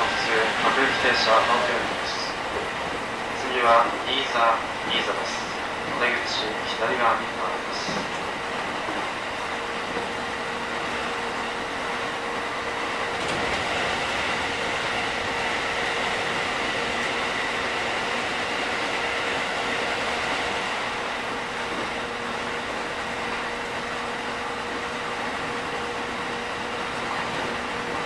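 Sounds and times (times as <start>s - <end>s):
electric train motor hum and whine: 0.0s - 28.0s
train wheels rumbling on rail: 0.0s - 28.0s.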